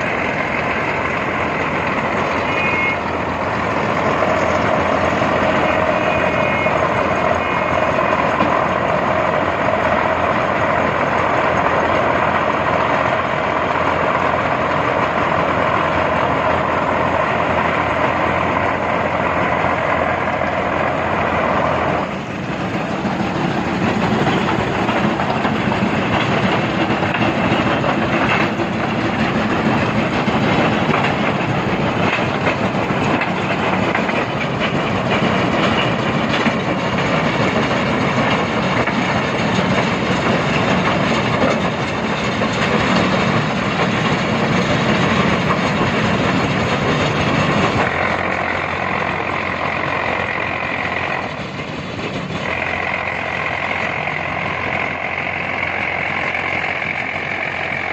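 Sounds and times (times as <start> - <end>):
diesel engine running: 0.0 - 57.9
machinery clattering: 0.0 - 57.9.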